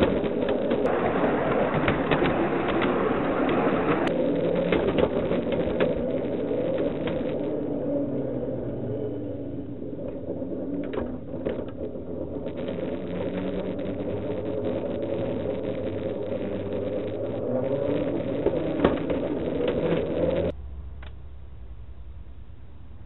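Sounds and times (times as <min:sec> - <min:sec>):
miniature locomotive mechanical hum: 0:00.0 - 0:21.2
wheels clicking over rail joints: 0:00.0 - 0:21.2.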